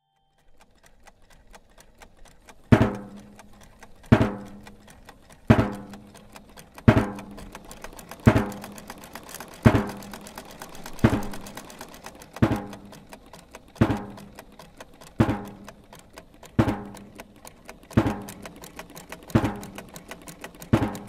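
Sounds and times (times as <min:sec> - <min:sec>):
rapid steady ticking: 0:00.2 - 0:21.0.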